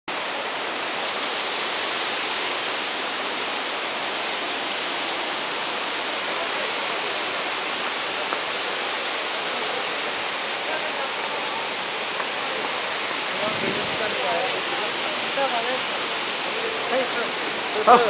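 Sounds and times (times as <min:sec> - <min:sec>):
waterfall rushing down rocks: 0:00.1 - 0:18.0.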